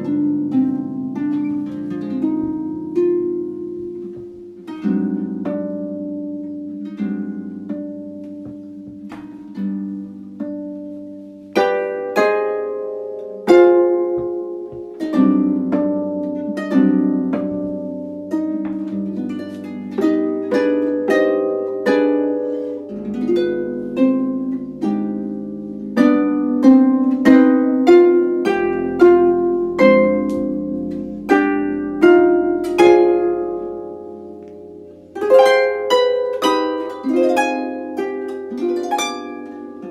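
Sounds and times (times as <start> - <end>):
harp plucked notes and chords: 0.0 - 39.9.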